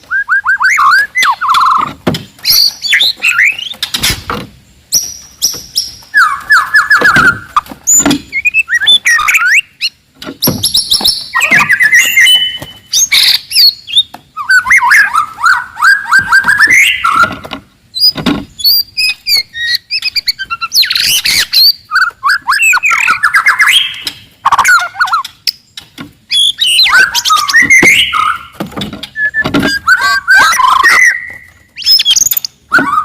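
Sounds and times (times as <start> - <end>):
bird singing varied song: 0.0 - 33.0.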